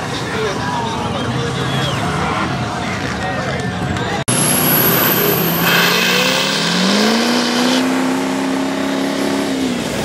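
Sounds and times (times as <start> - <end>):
diesel truck engines revving: 0.0 - 10.0.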